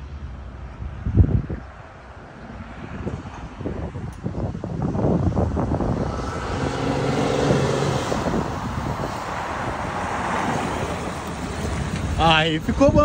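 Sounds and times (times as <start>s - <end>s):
diesel truck engine driving: 0.0s - 13.0s.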